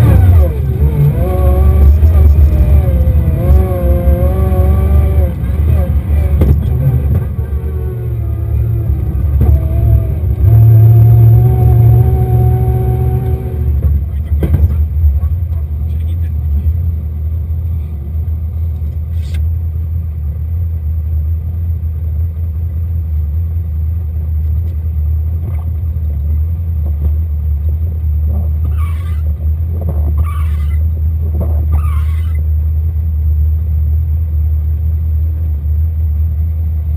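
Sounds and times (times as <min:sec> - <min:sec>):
car engine drone from cabin: 0:00.0 - 0:36.9.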